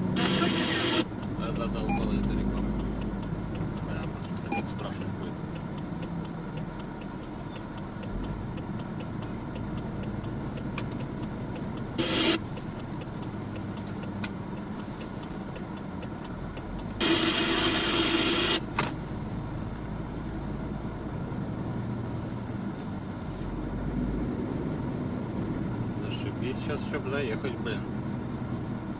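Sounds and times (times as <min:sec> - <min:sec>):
truck engine and road noise: 0:00.0 - 0:28.9.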